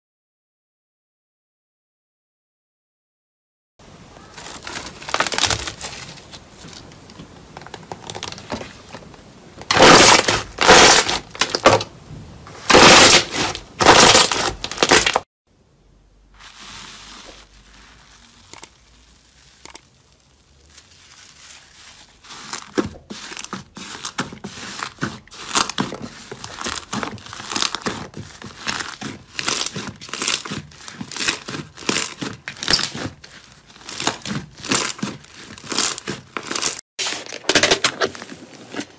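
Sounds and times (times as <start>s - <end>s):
crunchy material crackling: 4.1s - 11.9s, 12.5s - 15.3s, 16.3s - 37.4s.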